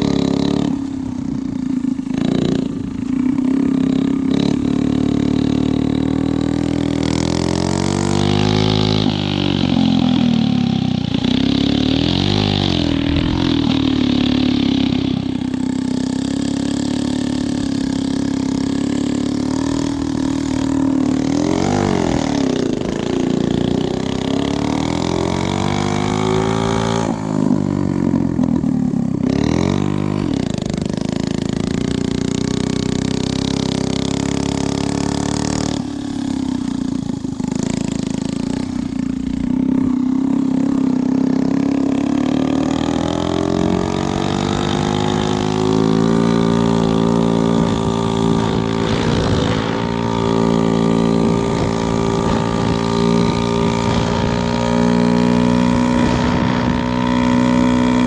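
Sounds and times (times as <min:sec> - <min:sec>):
two-stroke minibike engine revving: 0:00.0 - 0:58.0.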